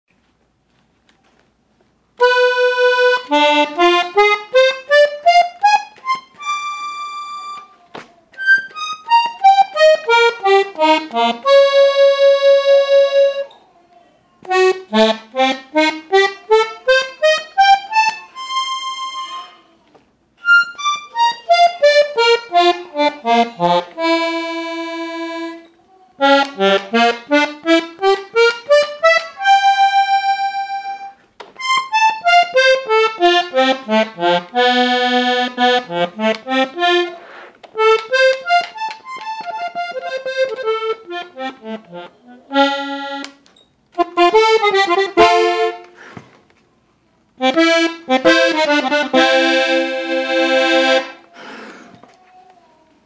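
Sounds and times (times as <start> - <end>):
accordion playing scales: 2.2 - 7.7, 8.3 - 13.5, 14.4 - 19.6, 20.4 - 25.6, 26.2 - 46.2, 47.4 - 51.7.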